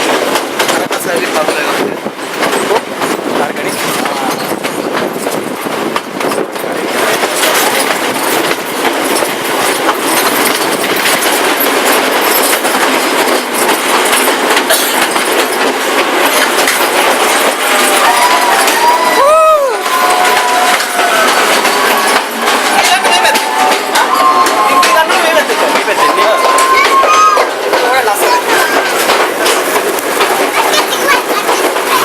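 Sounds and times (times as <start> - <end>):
train rushing rumble: 0.0 - 32.0
wheels clattering over rail joints: 0.0 - 32.0.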